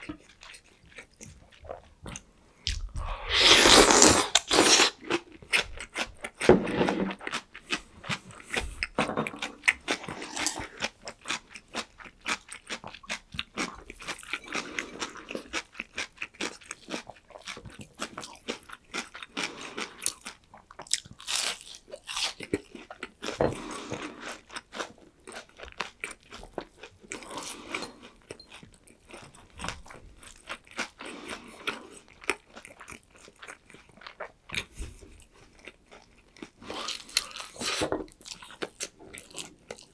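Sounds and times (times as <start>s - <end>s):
chewing crunchy fried food: 0.0s - 39.9s.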